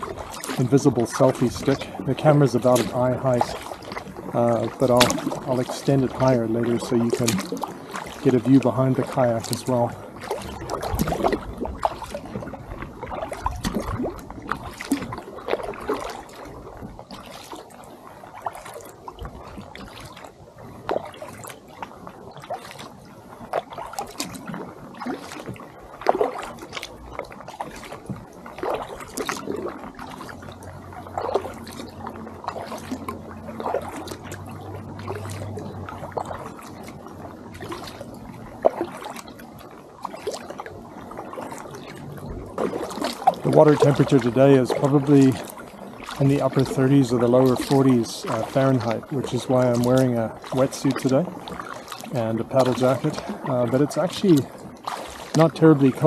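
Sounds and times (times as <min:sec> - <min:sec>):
kayak paddle splashing in water: 0:00.0 - 0:56.0.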